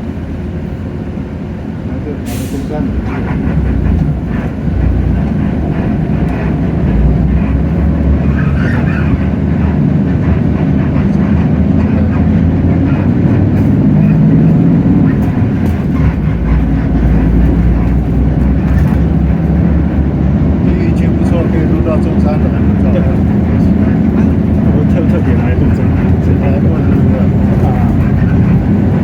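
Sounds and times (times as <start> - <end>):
bus diesel engine rumble: 0.0 - 29.0
road noise: 0.0 - 29.0.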